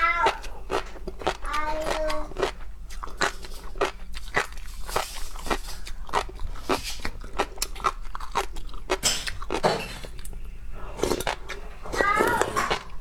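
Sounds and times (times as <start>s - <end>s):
low steady hum: 0.0s - 13.0s
person crunching and chewing: 0.0s - 13.0s.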